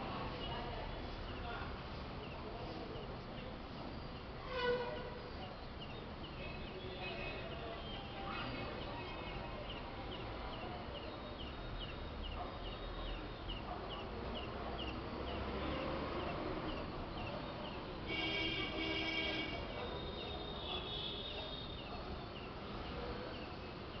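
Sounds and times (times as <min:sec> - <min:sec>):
small birds chirping: 0:00.0 - 0:04.4, 0:05.2 - 0:18.7, 0:19.6 - 0:24.0
background noise: 0:00.0 - 0:24.0.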